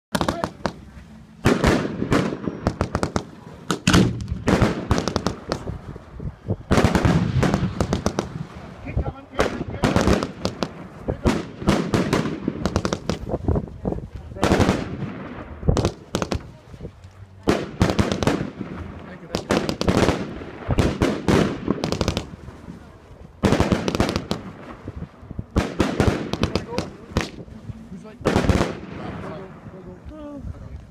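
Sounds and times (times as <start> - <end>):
loud firework bangs: 0.1 - 13.6, 14.4 - 16.6, 17.4 - 22.8, 23.4 - 27.5, 28.2 - 29.6
fireworks popping and crackling: 0.1 - 30.9.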